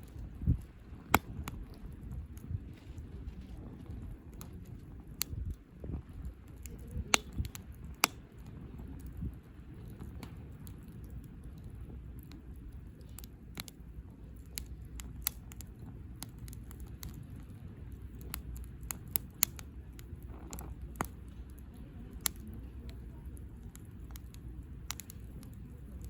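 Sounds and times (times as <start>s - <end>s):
campfire crackling and popping: 0.0s - 26.0s
low steady rumble: 0.0s - 26.0s.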